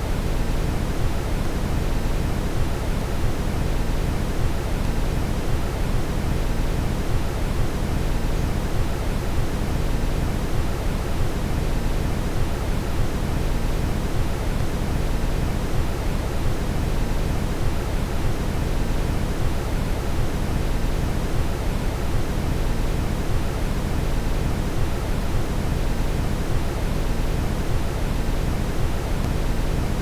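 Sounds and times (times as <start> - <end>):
brown noise hiss: 0.0 - 30.0.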